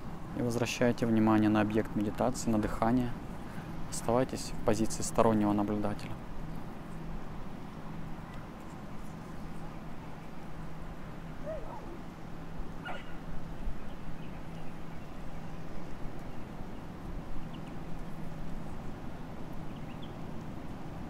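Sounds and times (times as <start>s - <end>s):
faint constant hum: 0.0s - 21.0s.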